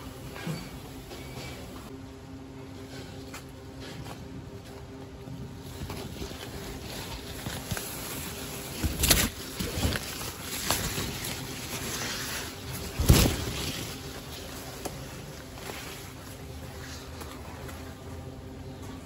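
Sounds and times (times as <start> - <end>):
plants rustling: 3.0 - 19.0.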